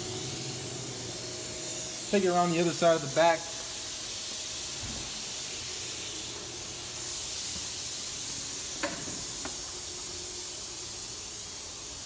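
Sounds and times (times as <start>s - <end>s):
steady machine hiss: 0.0s - 12.0s.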